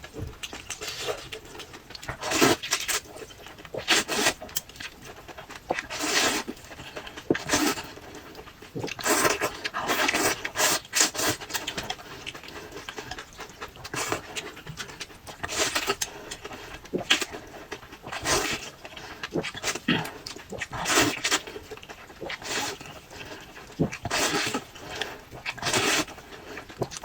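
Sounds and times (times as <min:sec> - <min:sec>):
wet chewing and slurping: 0:00.0 - 0:27.0.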